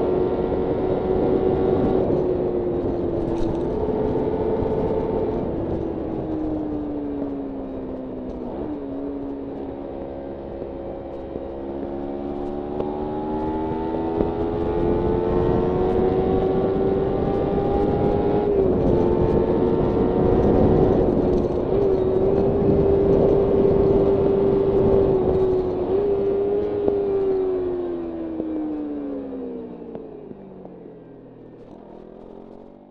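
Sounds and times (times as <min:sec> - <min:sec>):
wind noise: 0:00.0 - 0:28.7
motorcycle engine accelerating: 0:00.0 - 0:32.9.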